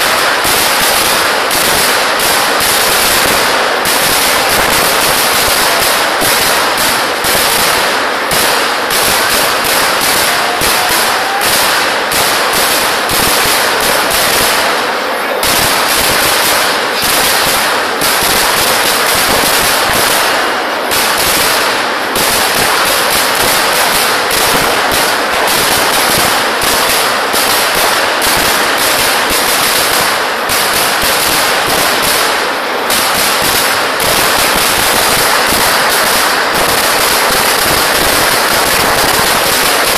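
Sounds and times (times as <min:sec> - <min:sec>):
rapid firecracker bangs: 0:00.0 - 0:39.9.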